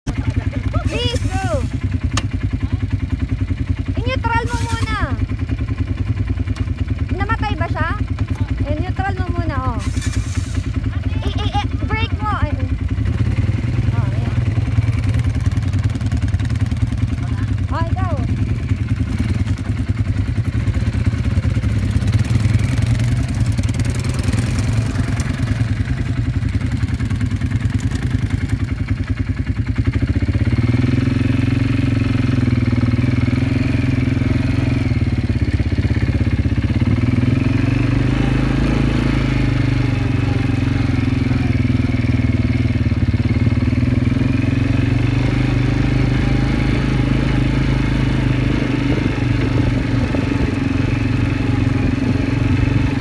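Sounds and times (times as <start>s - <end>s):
quad bike engine: 0.0s - 53.0s.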